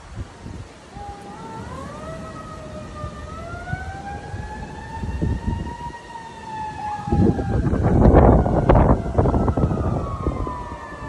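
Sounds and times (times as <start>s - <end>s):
wind buffeting microphone: 0.0s - 11.0s
siren wailing: 0.9s - 11.0s.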